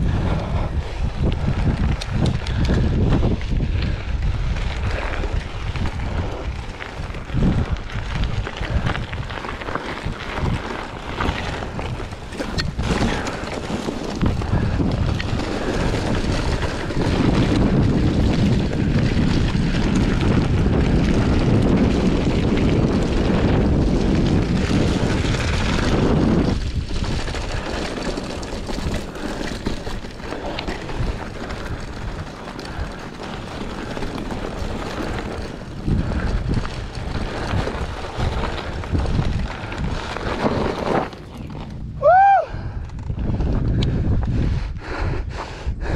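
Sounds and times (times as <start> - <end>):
bike rolling over rough ground: 0.0 - 45.2
wind buffeting microphone: 0.0 - 45.9.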